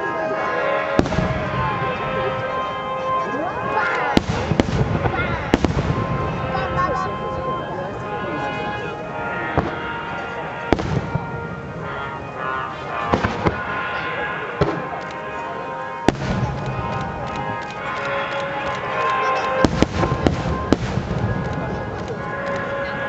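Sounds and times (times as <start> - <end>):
music playing: 0.0 - 23.0
fireworks bursting: 0.9 - 2.6, 3.6 - 22.9.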